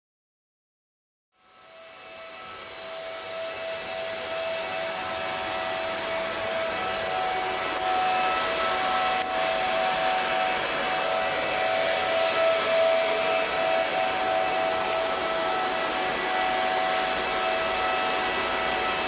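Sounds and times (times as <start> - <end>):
cooling fans whining: 1.7 - 19.0.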